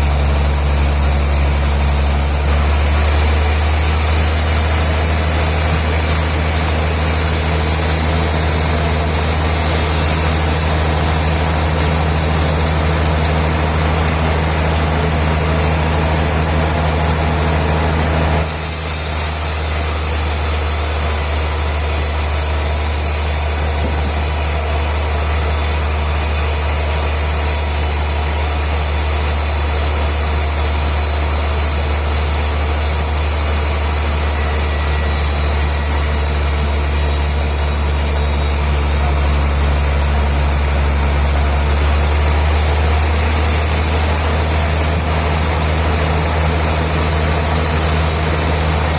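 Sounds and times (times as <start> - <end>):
bandsaw mill machinery humming: 0.0 - 48.9.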